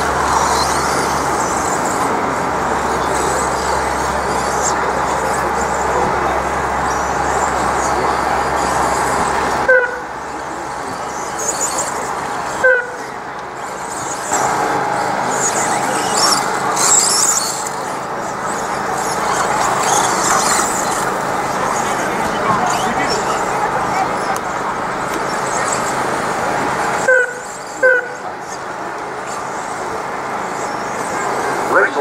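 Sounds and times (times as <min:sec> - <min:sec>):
rc truck motors whirring: 0:00.0 - 0:32.0.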